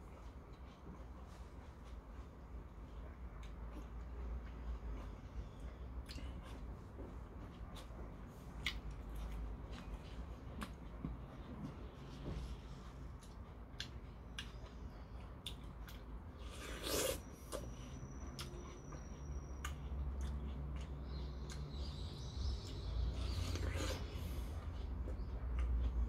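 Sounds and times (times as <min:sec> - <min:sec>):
person chewing watermelon: 0:00.0 - 0:26.0.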